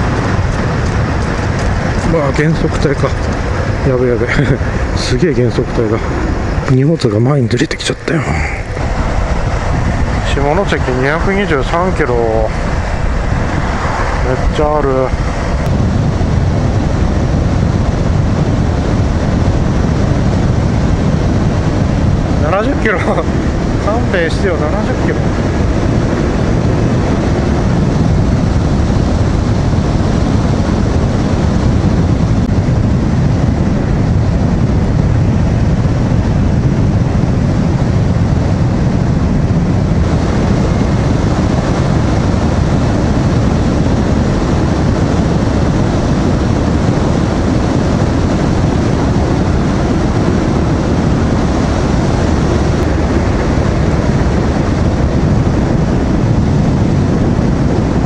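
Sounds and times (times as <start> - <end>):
motorcycle riding noise: 0.0 - 58.0
wind rush: 0.0 - 58.0.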